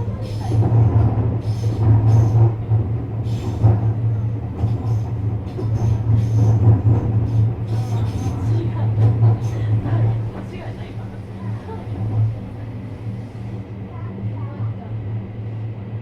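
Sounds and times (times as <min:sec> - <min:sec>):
electric train humming: 0:00.0 - 0:16.0.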